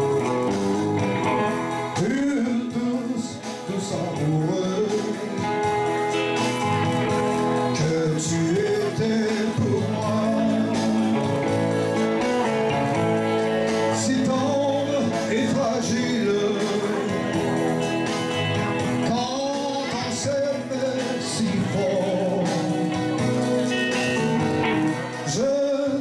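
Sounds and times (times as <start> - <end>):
electric guitar: 0.0 - 26.0
man singing into a microphone: 1.8 - 26.0.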